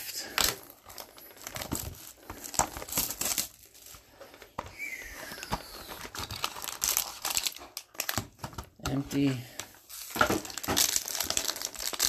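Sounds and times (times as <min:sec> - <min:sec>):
cardboard and foil crinkling: 0:00.0 - 0:12.0.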